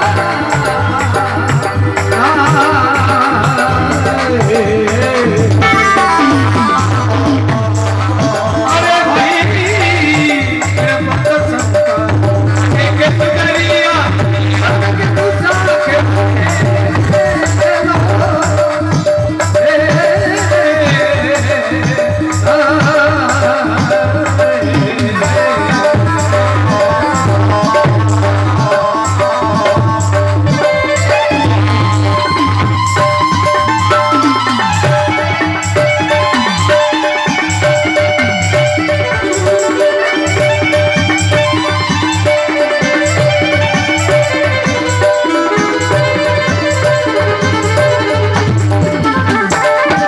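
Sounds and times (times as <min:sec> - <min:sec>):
wavering melody: 0:00.0 - 0:20.3, 0:23.8 - 0:50.0
hand drum beat: 0:00.0 - 0:50.0.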